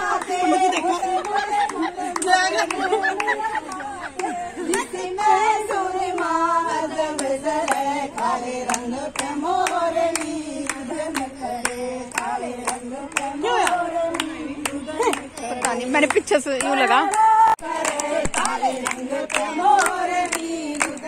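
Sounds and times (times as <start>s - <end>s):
hand-clapping beat: 0.0s - 21.0s
women singing together: 0.0s - 21.0s.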